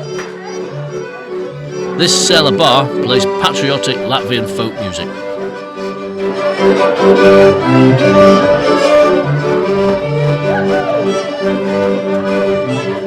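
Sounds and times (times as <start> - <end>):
folk music with held notes: 0.0 - 13.0.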